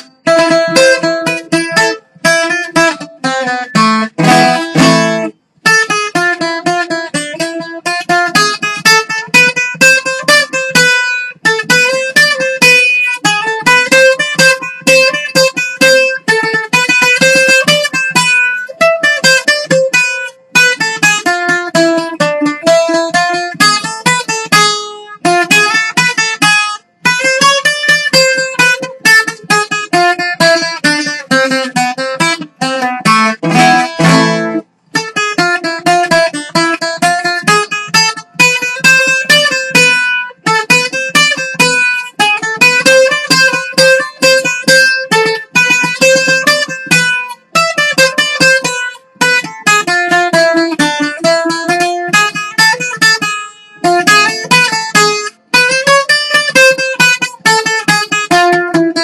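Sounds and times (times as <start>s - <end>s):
bouzouki playing dance tune: 0.0s - 59.0s.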